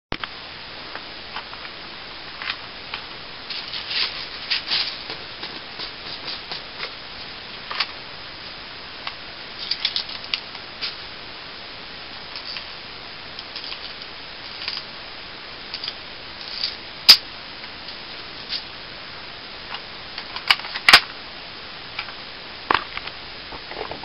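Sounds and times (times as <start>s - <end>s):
steady hiss: 0.1s - 24.0s.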